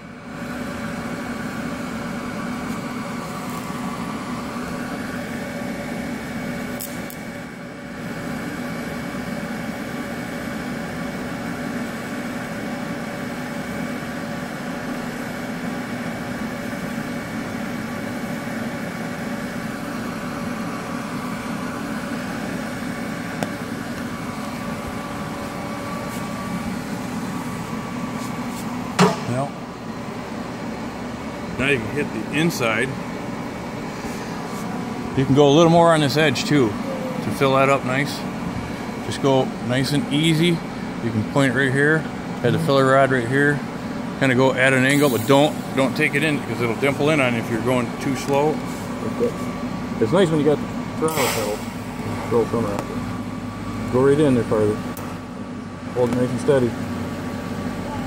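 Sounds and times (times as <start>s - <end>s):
welding arc buzzing hum: 0.0s - 57.9s.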